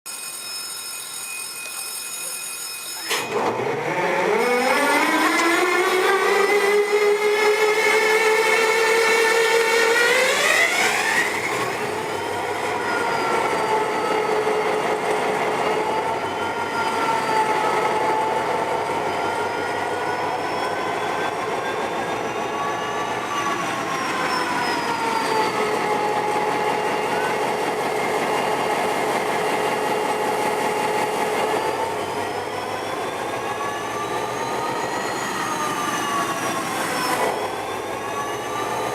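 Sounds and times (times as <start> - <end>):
locomotive engine whine: 0.2 - 38.9.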